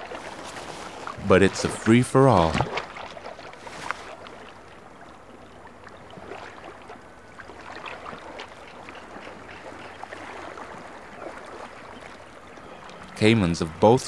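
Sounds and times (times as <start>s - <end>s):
water drips: 0.0s - 13.2s
shallow water lapping and splashing: 0.0s - 14.0s.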